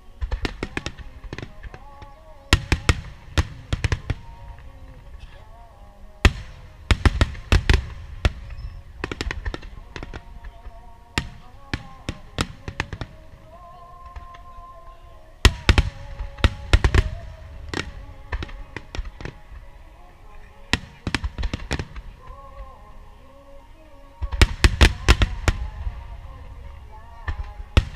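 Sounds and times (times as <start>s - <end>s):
fireworks bursting with sharp bangs: 0.0s - 27.9s
music with held notes: 0.0s - 27.9s.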